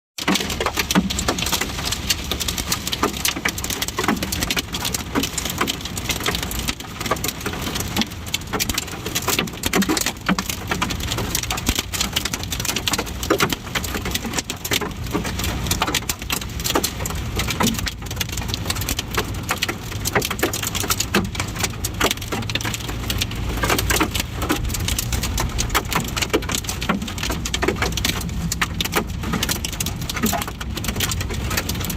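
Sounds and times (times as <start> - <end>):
heavy rain patter: 0.2 - 31.9.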